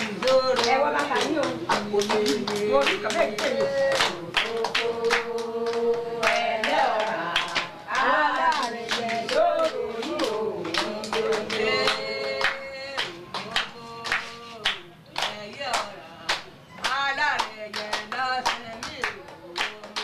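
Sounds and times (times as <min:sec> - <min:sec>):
hand clapping steady beat: 0:00.0 - 0:20.0.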